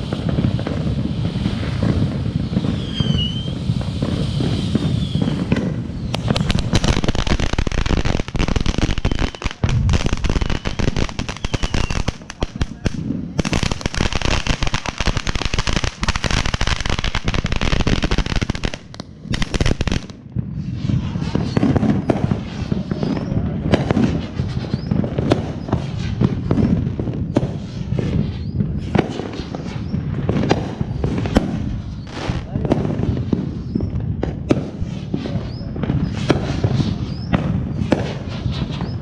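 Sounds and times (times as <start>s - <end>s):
firework hissing crackle: 0.0s - 39.0s
firework whistles: 0.0s - 39.0s
fireworks popping and banging: 0.0s - 39.0s.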